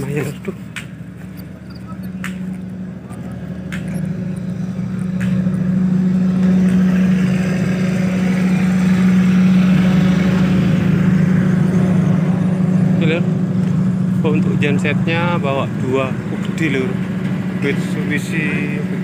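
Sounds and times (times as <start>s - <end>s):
generator engine humming: 0.0s - 19.0s.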